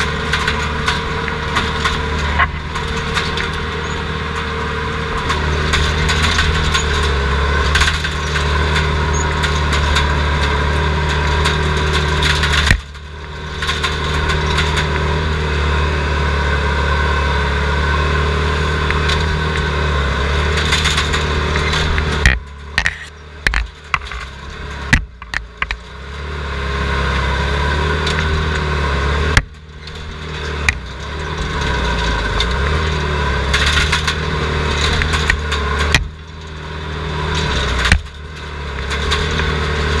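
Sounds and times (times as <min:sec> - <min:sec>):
sharp clanks and knocks: 0:00.0 - 0:15.8, 0:17.9 - 0:26.3, 0:27.9 - 0:40.0
diesel engine running: 0:00.0 - 0:40.0.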